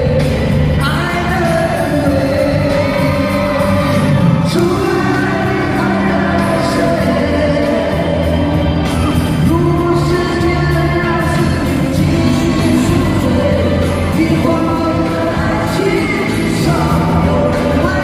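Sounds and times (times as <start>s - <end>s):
live pop-rock band playing: 0.0s - 18.0s
men singing: 0.0s - 18.0s.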